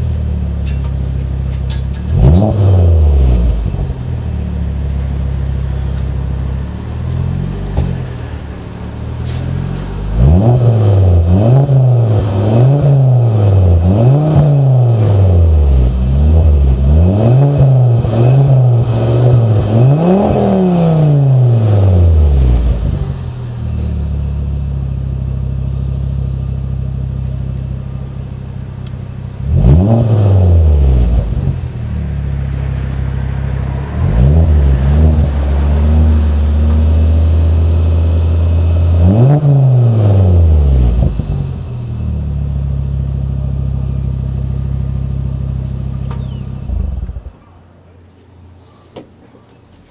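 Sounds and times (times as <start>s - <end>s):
car engine revving and idling: 0.0s - 48.8s.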